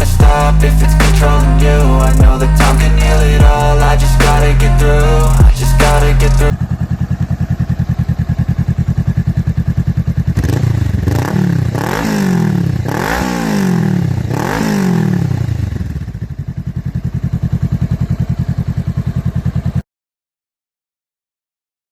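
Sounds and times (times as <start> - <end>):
motorcycle engine idling and revving: 0.0 - 19.8.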